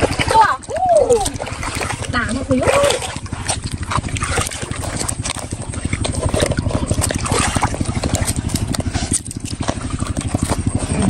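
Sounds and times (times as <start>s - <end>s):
mud and water squelching: 0.0s - 11.0s
small engine throbbing: 0.0s - 11.0s.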